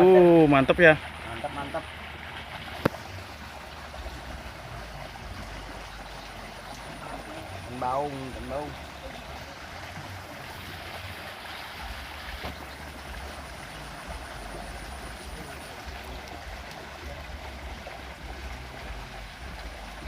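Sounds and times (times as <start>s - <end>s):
water running in a ditch: 0.0s - 20.0s.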